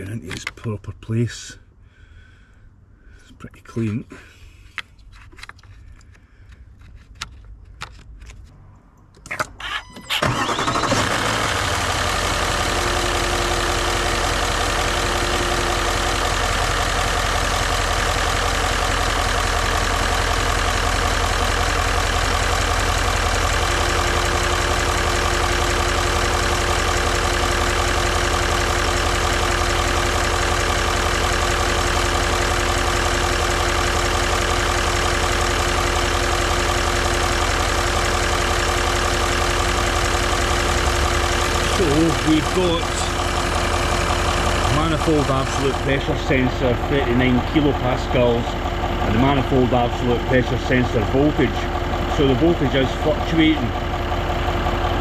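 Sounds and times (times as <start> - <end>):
car engine starting and idling: 6.0 - 55.0.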